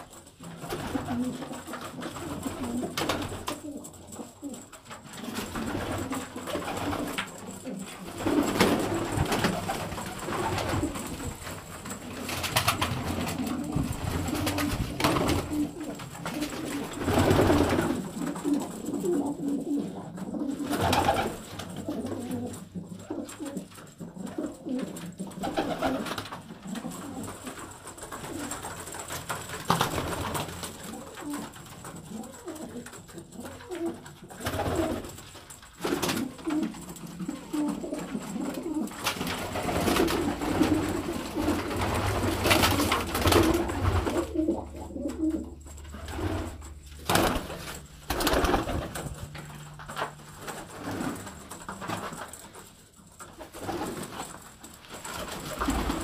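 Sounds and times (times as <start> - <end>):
pigeons cooing: 0.0 - 56.0
wings flapping: 0.4 - 56.0.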